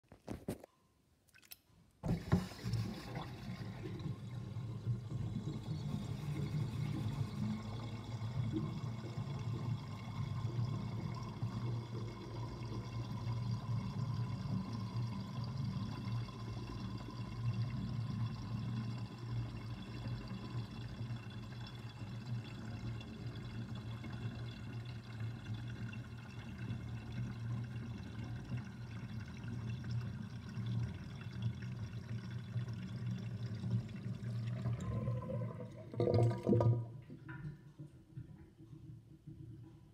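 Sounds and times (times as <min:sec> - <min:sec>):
water gurgling down sink drain: 0:02.0 - 0:37.5.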